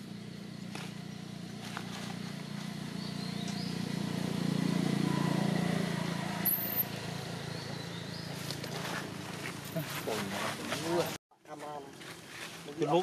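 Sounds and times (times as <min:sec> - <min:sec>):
passing vehicle engine hum: 0:00.0 - 0:11.1.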